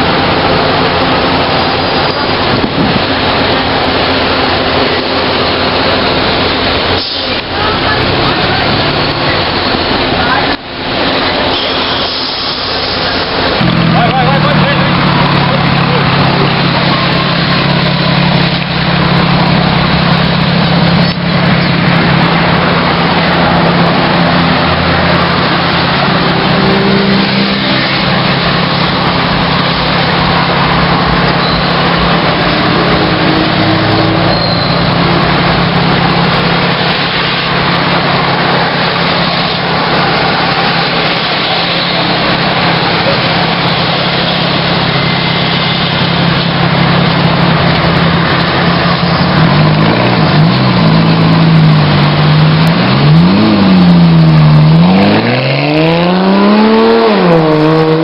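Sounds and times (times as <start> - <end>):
constant noisy hiss: 0.0 - 54.8
car engine and road rumble: 0.0 - 58.0.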